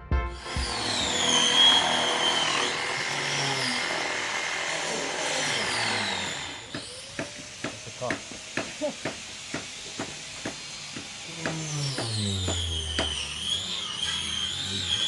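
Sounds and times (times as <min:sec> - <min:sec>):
power tool grinding: 0:00.4 - 0:15.0.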